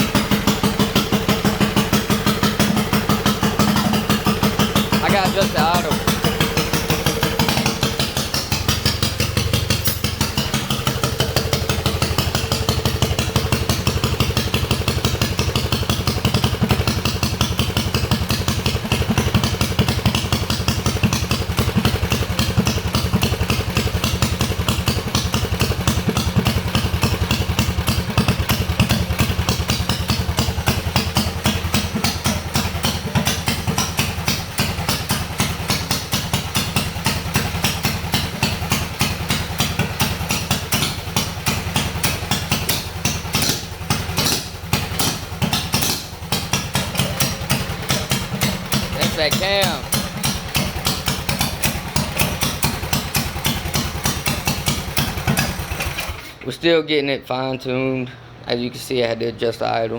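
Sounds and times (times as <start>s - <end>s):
pulsing exhaust beat: 0.0s - 55.8s
minibike engine idling: 0.0s - 59.9s.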